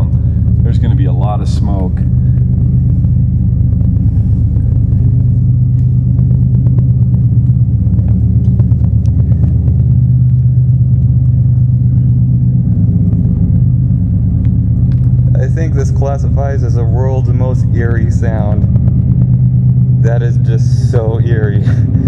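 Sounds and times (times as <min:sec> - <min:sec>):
diesel locomotives droning: 0:00.0 - 0:22.0.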